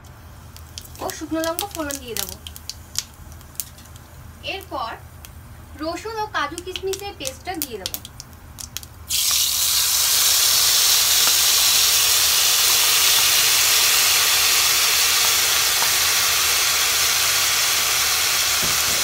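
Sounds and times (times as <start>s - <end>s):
paste sizzling in hot oil: 0.2s - 19.0s.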